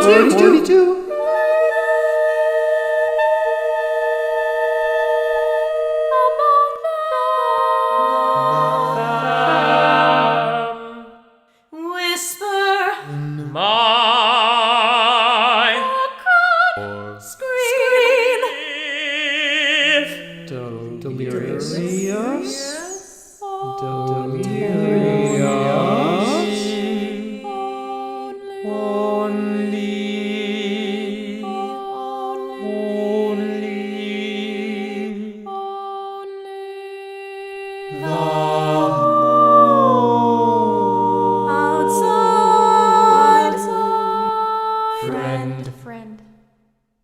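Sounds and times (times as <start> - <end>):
voices singing chords: 0.0 - 46.2.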